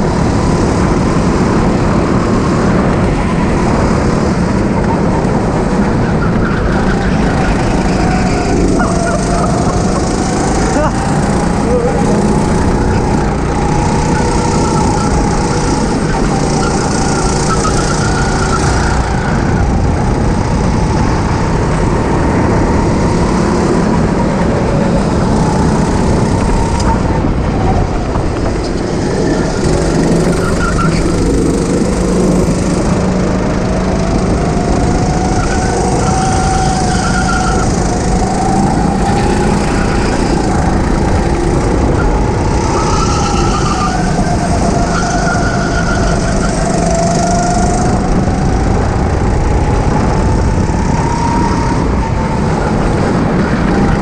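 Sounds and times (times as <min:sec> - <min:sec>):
go-kart engine whining: 0:00.0 - 0:54.0.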